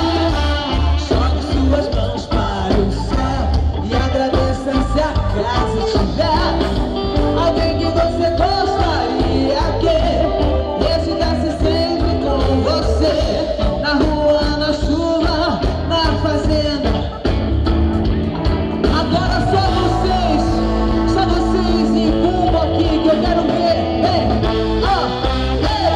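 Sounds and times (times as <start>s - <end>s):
woman singing lead: 0.0s - 17.1s, 18.8s - 25.9s
live soul band playing: 0.0s - 25.9s.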